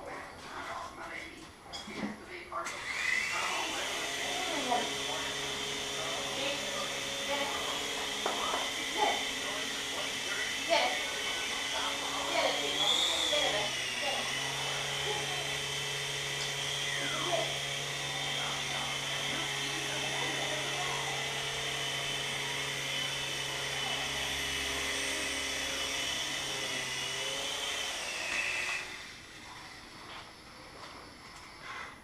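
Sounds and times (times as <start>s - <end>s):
mini helicopter motor whining: 2.7s - 32.0s.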